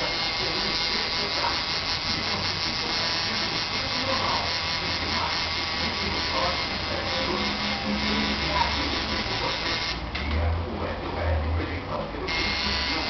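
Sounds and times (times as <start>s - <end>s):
tattoo machine buzzing: 0.0s - 10.0s, 12.3s - 13.0s.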